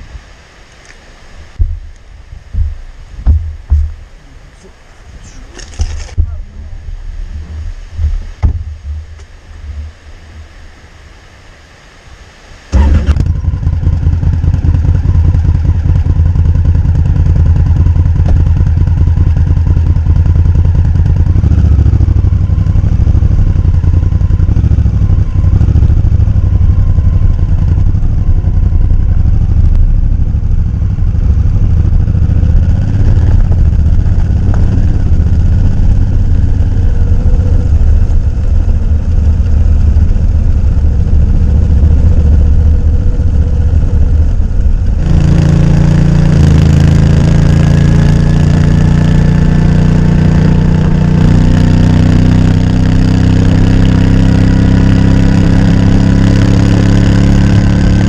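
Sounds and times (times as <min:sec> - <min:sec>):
motorcycle engine running: 0:01.5 - 0:04.3, 0:05.2 - 0:10.7, 0:12.7 - 0:58.0.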